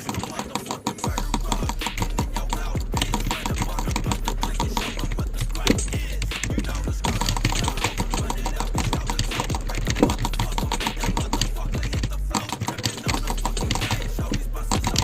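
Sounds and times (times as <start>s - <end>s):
rapid irregular clicking: 0.0s - 15.0s
low music bed: 1.1s - 15.0s.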